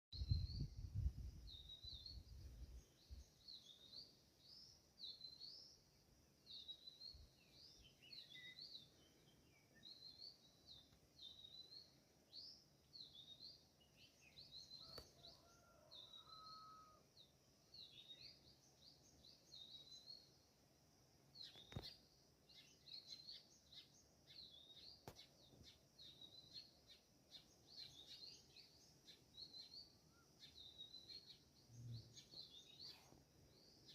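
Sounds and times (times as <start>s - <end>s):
small birds chirping: 0.2s - 20.5s, 21.3s - 33.9s.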